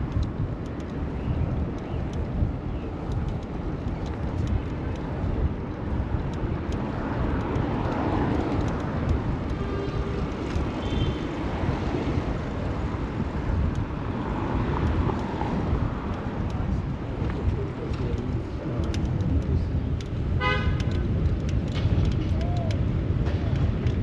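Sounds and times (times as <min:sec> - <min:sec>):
street traffic noise: 0:00.0 - 0:24.0
wind buffeting microphone: 0:00.0 - 0:24.0.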